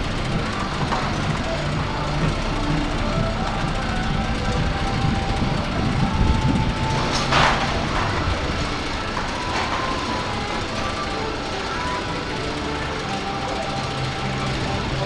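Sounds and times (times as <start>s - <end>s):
faint music: 0.0s - 15.0s
ride rumbling along track: 0.0s - 15.0s.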